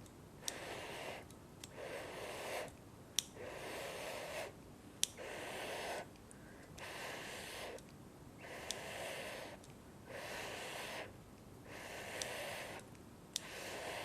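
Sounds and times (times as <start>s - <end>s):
close breaths or puffs of air: 0.4s - 2.7s, 3.3s - 4.6s, 5.2s - 7.8s, 8.4s - 14.0s.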